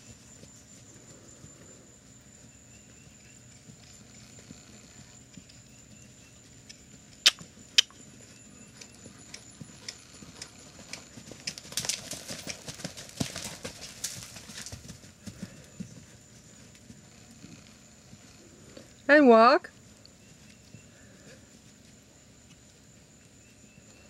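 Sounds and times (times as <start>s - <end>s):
horse hoofbeats trotting on dirt: 0.0s - 24.0s.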